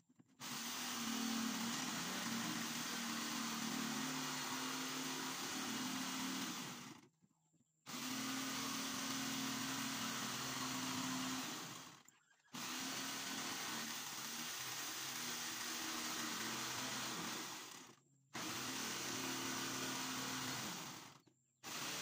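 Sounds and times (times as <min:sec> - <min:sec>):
electric jigsaw cutting wood: 0:00.4 - 0:07.0, 0:07.9 - 0:22.0.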